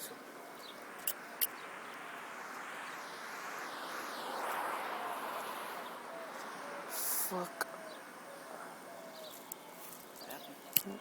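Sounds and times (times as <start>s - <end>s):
passing vehicle rushing: 0.0s - 9.1s.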